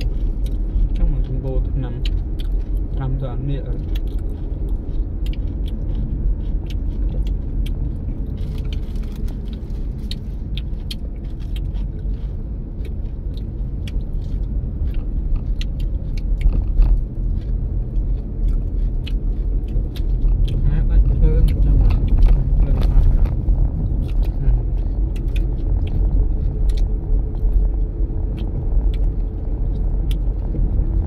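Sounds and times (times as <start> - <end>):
road and tyre rumble: 0.0 - 31.0.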